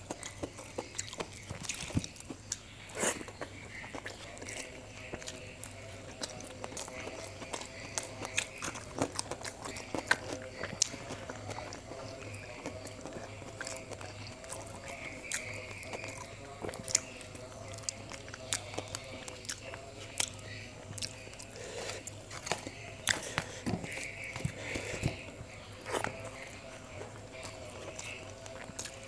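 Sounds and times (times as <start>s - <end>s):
faint steady hum: 0.0s - 29.0s
person chewing and smacking: 0.0s - 29.0s.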